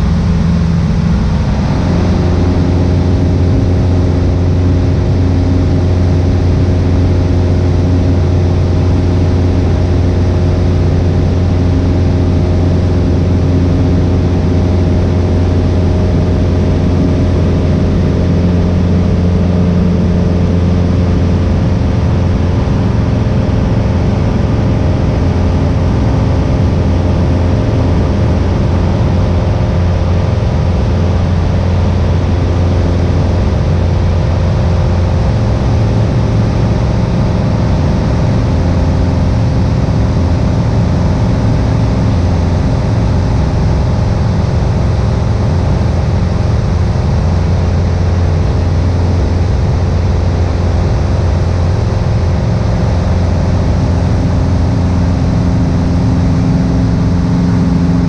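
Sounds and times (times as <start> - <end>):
aircraft engine drone in cabin: 0.0 - 58.0.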